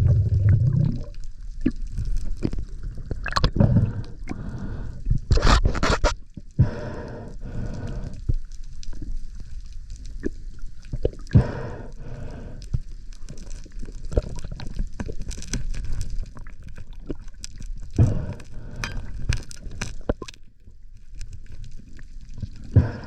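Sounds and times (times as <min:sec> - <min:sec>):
water sloshing and gurgling: 0:00.0 - 0:23.0.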